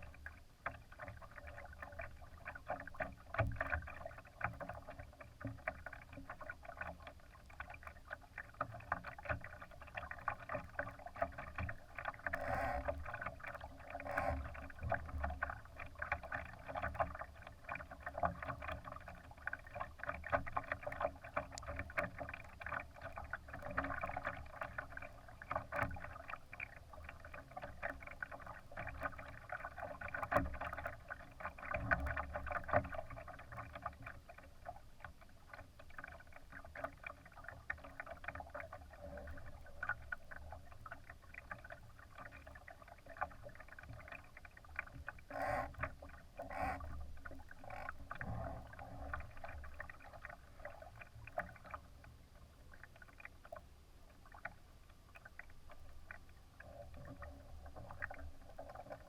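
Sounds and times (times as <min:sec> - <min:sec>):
water splashing against boat hull: 0:00.0 - 0:59.0.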